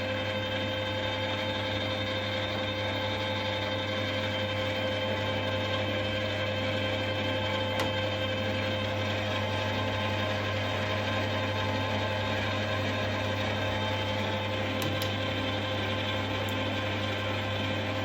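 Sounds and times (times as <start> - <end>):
lathe motor humming and whining: 0.0 - 18.0.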